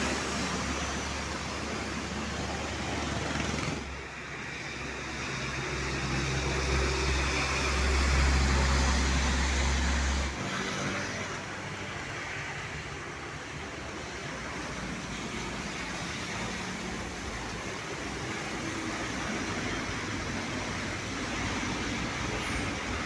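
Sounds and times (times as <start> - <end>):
road traffic noise: 0.0 - 23.0
truck diesel engine passing: 0.0 - 23.0.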